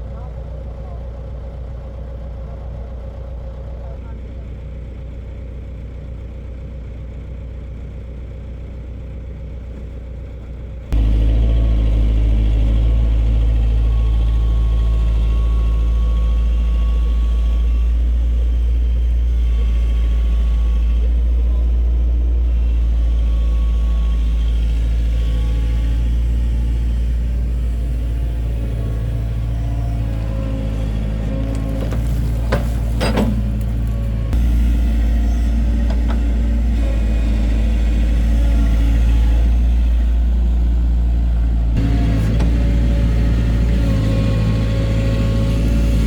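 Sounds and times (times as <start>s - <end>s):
heavy diesel engine rumbling: 0.0s - 46.0s.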